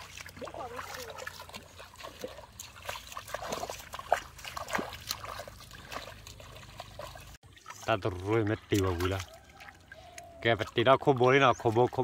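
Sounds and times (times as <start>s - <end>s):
feet splashing in muddy water: 0.0s - 12.0s.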